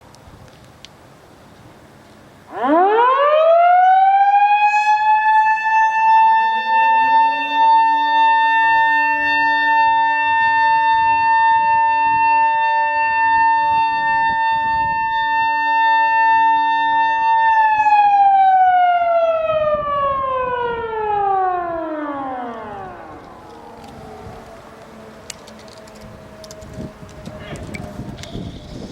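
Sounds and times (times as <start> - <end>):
warning siren wailing: 2.5 - 28.9.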